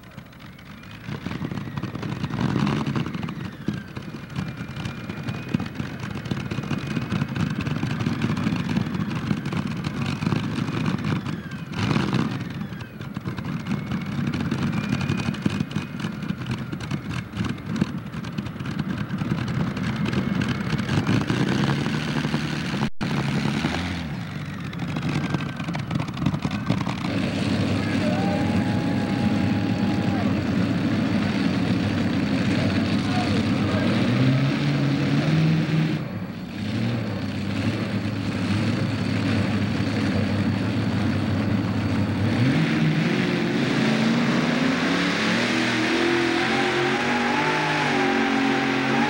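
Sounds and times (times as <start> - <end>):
tractor engines revving loud: 0.0 - 49.0.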